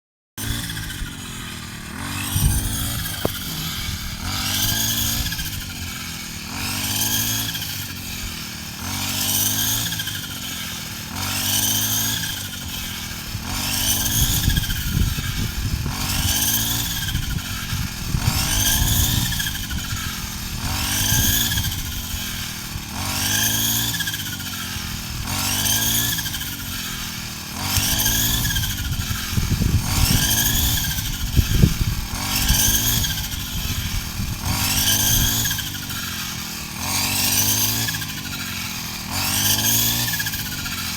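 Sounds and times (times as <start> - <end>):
small engine running: 0.4 - 40.9.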